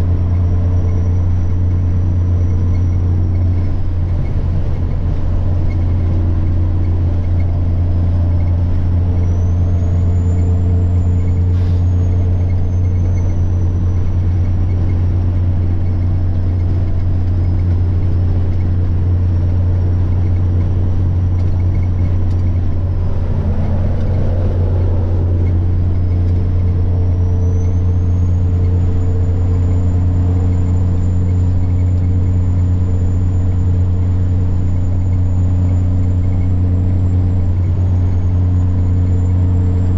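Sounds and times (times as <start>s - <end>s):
diesel truck engine running: 0.0s - 39.9s
turbocharger whine: 0.0s - 39.9s.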